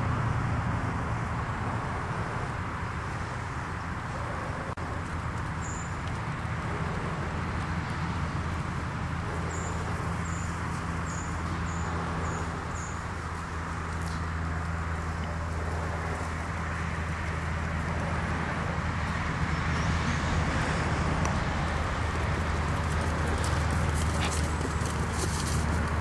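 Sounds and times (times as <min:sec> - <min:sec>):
outdoor rumble and hiss: 0:00.0 - 0:26.0.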